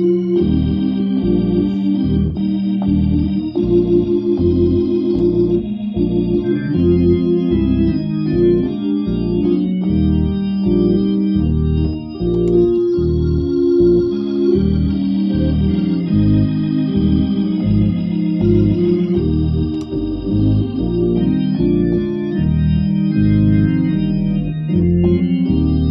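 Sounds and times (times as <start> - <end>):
organ chords: 0.0 - 25.9
pulsing low organ bass: 0.0 - 25.9.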